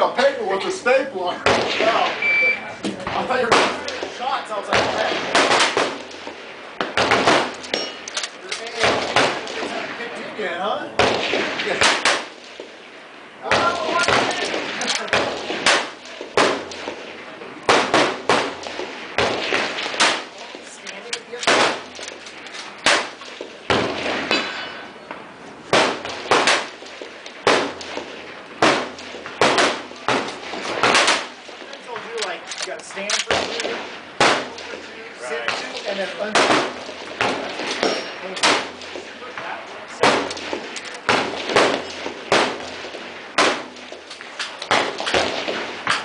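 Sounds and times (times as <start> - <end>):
rifle shots with echo: 1.4 - 2.4, 3.0 - 10.1, 11.0 - 24.9, 25.7 - 46.0.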